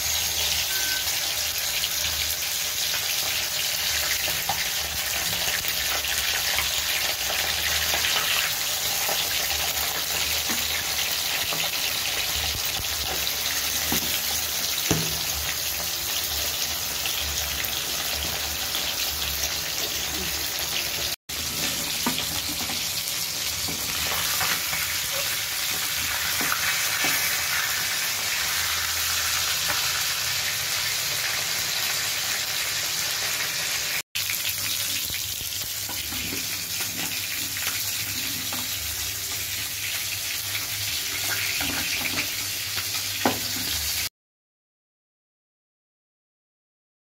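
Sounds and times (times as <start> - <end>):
fish frying in hot oil: 0.0 - 44.1.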